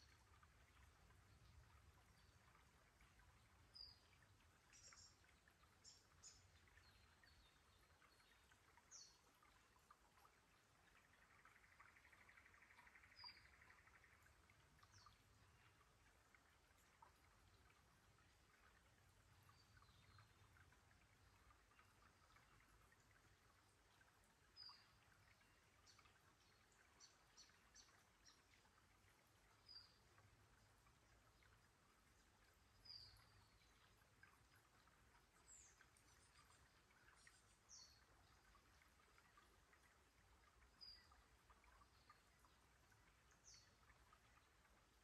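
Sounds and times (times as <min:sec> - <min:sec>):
low steady hiss: 0:00.0 - 0:45.0.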